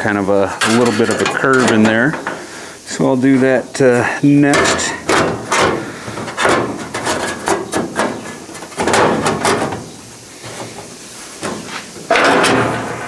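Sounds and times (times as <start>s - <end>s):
sheet metal rattling and scraping: 0.0s - 13.0s.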